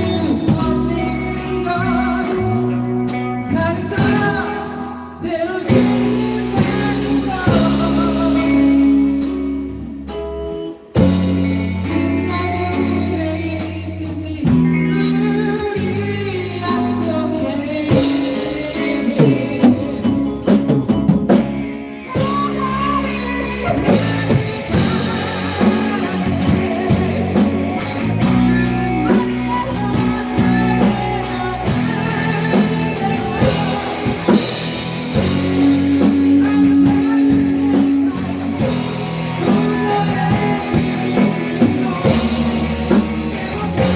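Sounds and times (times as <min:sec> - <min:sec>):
male singer: 0:00.0 - 0:09.6, 0:11.7 - 0:21.1, 0:22.1 - 0:43.9
bass guitar: 0:00.0 - 0:43.9
drum kit: 0:00.0 - 0:43.9
electric guitar: 0:00.0 - 0:43.9.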